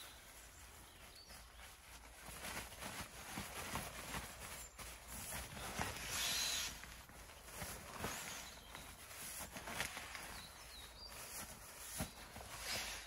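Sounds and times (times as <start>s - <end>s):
inflatable mat rustling and knocking: 0.6s - 13.0s.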